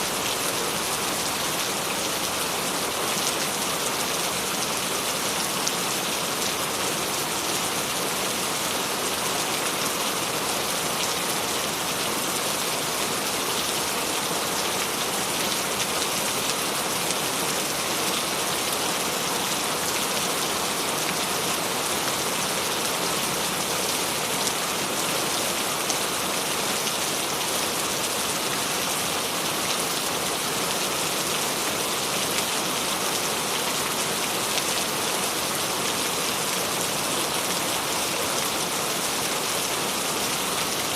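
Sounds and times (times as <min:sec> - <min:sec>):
rain pattering on a surface: 0:00.0 - 0:40.9.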